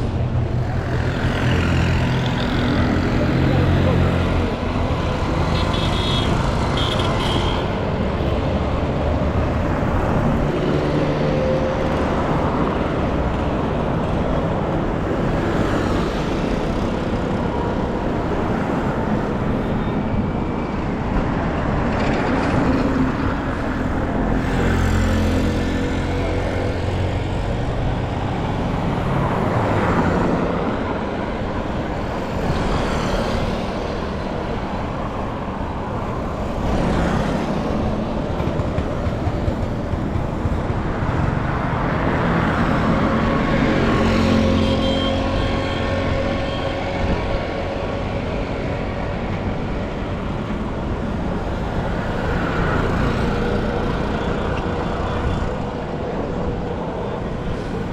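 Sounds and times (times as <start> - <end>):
cars and trucks passing: 0.0 - 57.9.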